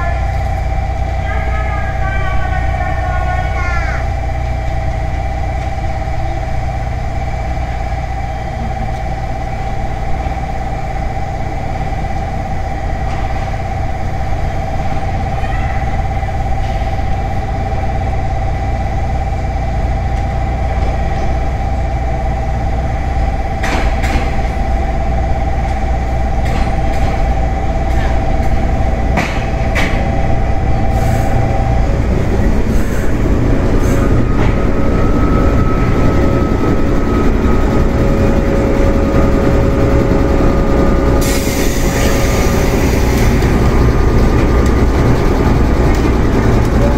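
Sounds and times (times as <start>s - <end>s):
electric train running noise: 0.0s - 46.9s.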